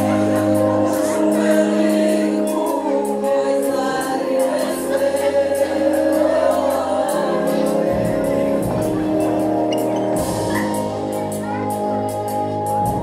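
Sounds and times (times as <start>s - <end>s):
person singing with long notes: 0.0s - 11.2s
musical accompaniment: 0.0s - 13.0s.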